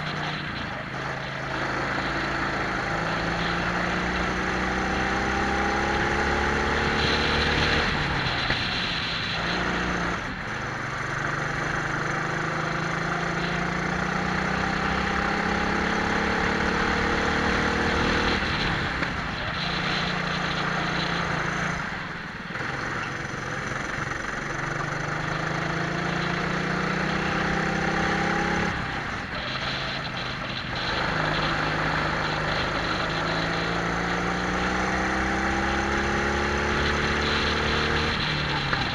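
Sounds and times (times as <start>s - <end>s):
racing kart engines revving: 0.0s - 38.9s
steady rushing noise: 0.0s - 38.9s.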